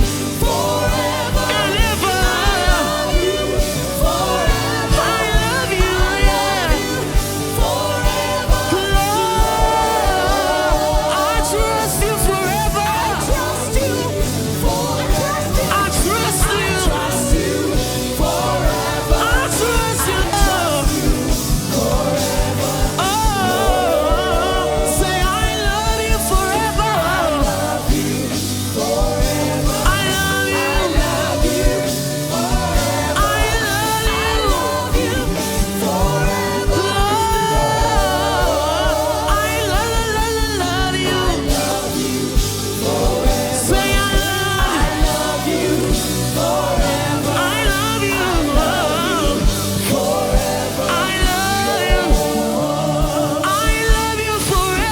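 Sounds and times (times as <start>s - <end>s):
band with steady beat: 0.0s - 54.9s
gospel singing: 0.0s - 54.9s.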